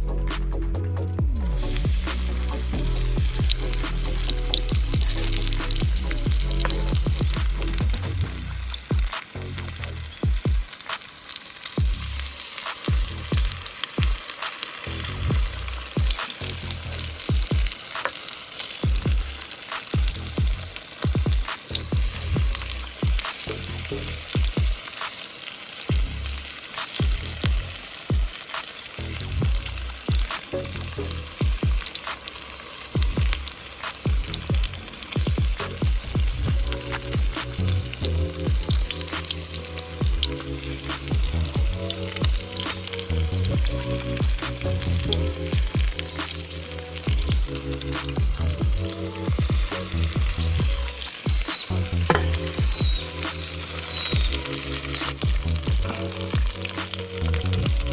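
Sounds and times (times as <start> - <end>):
music with kick drum and bass: 0.0 - 10.8, 11.8 - 14.3, 14.9 - 17.8, 18.8 - 24.9, 25.9 - 28.4, 29.2 - 32.0, 33.0 - 57.9
food deep-frying in hot oil: 1.3 - 57.9.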